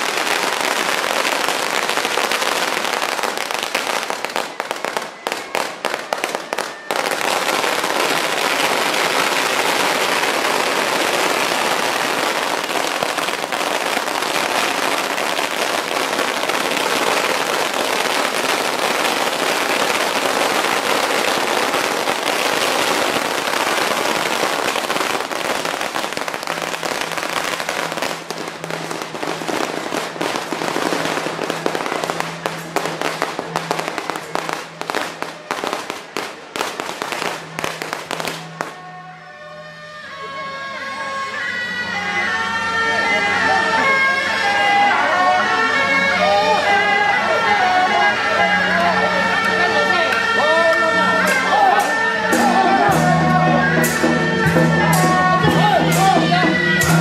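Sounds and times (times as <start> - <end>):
firecrackers crackling: 0.0 - 39.0, 43.0 - 57.0.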